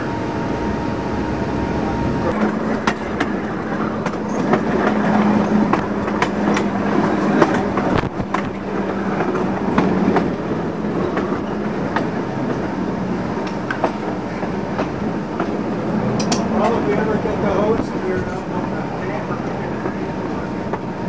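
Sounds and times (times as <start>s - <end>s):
streetcar wheels rumbling: 0.0s - 21.0s.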